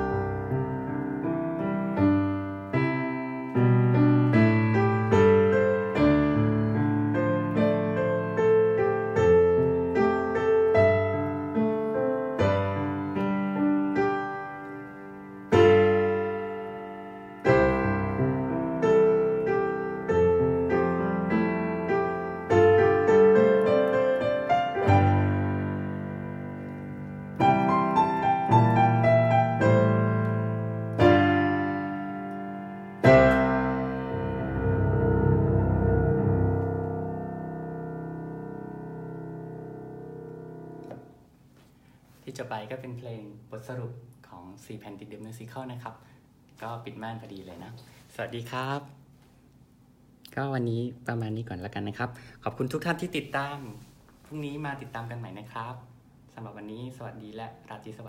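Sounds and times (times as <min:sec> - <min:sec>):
slow digital piano chords: 0:00.0 - 0:58.0.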